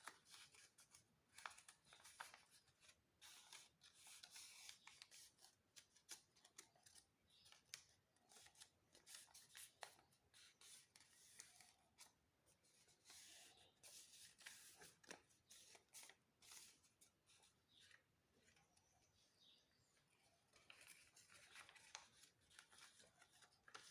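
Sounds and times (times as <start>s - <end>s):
paper crinkling and rustling: 0.0s - 12.2s, 12.9s - 18.6s, 20.4s - 23.9s.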